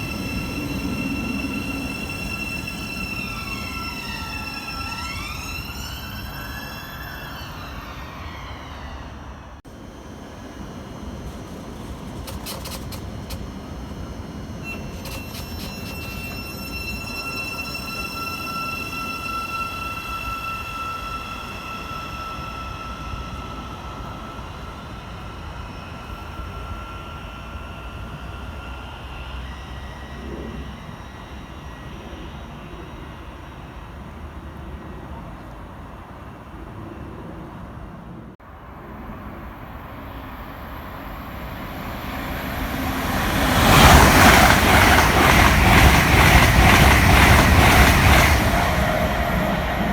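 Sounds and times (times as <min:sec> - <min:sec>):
electric train whine: 0:00.0 - 0:49.9.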